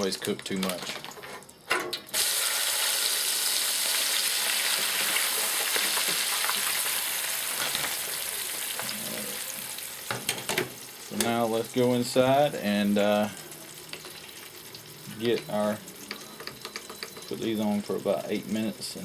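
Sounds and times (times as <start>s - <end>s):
fries sizzling in deep-fryer oil: 2.0s - 19.0s.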